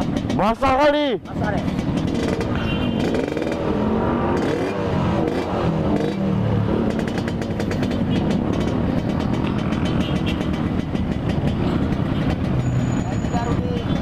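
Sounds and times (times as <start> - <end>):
engine crackle: 0.0 - 14.0
two-stroke motorcycle engine running: 0.0 - 14.0.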